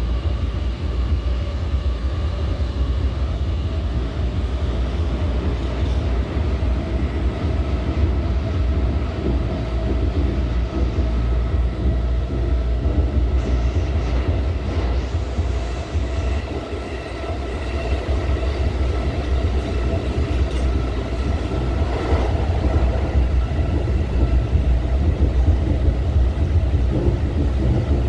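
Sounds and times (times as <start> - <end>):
wheels rumbling on rail: 0.0 - 28.0.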